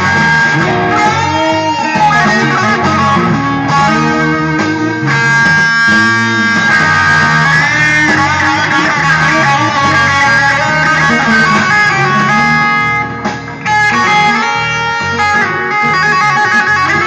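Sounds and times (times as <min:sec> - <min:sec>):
electric guitar playing blues: 0:00.0 - 0:17.0.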